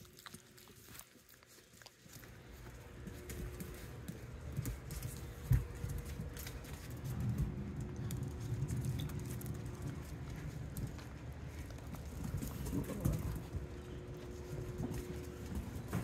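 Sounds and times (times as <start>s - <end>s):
puppy claws clicking on floor: 0.0s - 16.0s.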